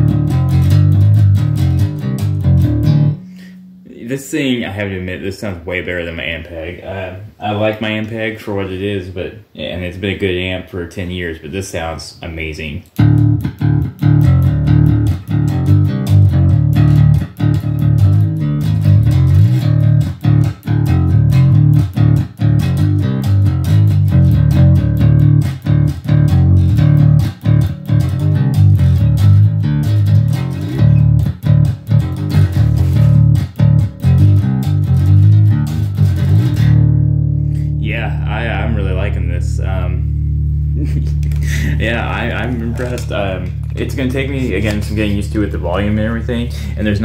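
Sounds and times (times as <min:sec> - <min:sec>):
overdriven electric bass riff: 0:00.0 - 0:04.0, 0:12.9 - 0:47.0.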